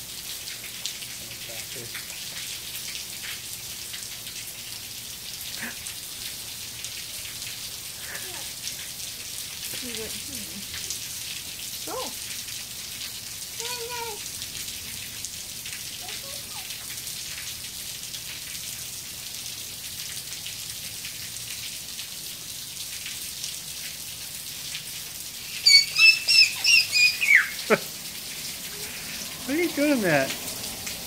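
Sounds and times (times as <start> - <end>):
rain on concrete: 0.0 - 31.0.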